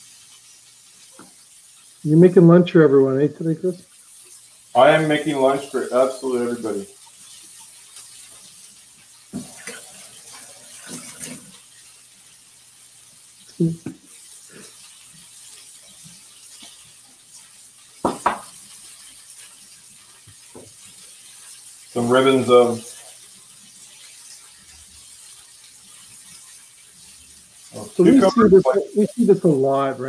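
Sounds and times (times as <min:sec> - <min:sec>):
steady faint hiss: 0:00.0 - 0:24.3, 0:27.5 - 0:30.0.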